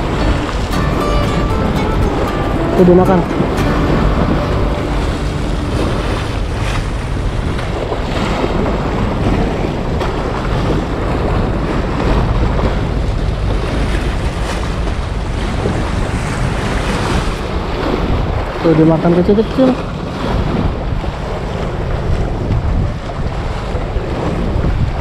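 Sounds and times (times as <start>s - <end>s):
waves splashing against breakwater: 0.0s - 25.0s
wind buffeting microphone: 0.0s - 25.0s.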